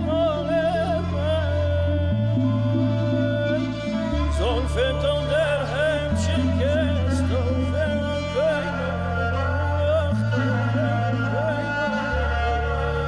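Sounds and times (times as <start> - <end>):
melody with sliding notes: 0.0 - 13.0
sustained bass line: 0.0 - 13.0.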